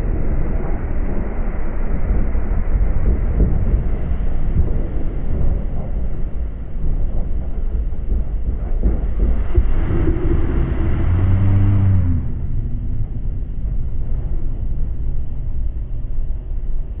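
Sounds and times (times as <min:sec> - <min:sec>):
droning tone: 0:00.0 - 0:17.0
train rumbling along track: 0:00.0 - 0:17.0.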